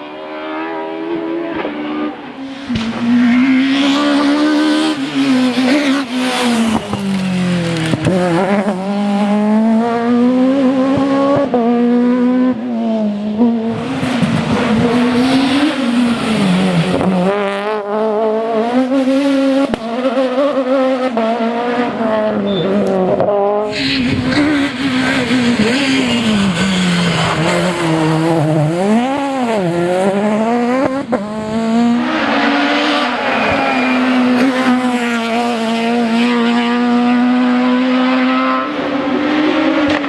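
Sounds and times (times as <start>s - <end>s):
rally car engine at high revs: 0.0s - 40.0s.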